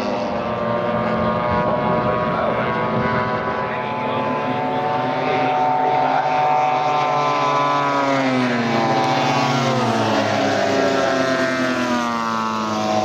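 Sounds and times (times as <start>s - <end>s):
model plane propeller engines: 0.0s - 13.0s.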